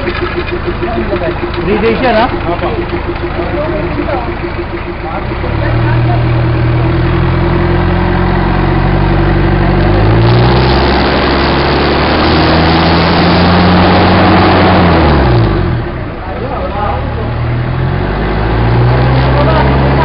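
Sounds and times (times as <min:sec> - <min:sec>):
diesel engine revving: 0:00.0 - 0:20.0.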